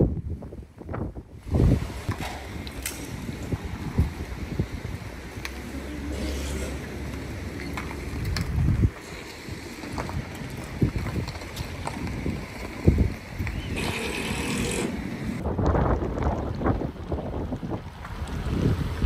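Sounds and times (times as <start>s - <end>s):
wind gusting across microphone: 0.0s - 19.0s.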